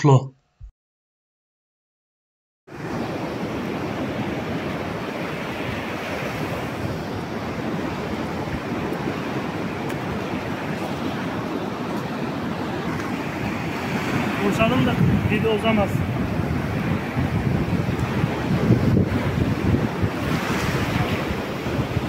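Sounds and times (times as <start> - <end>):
waves breaking on a beach: 2.7 - 22.0
wind buffeting microphone: 2.9 - 22.0.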